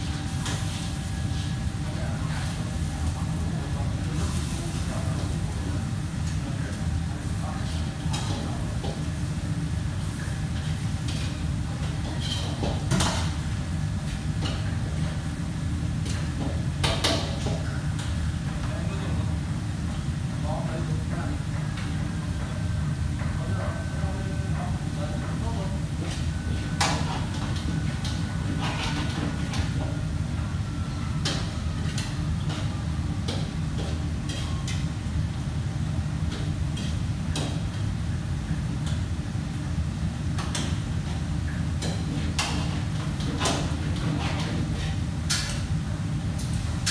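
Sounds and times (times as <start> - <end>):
low kitchen hum: 0.0 - 46.9.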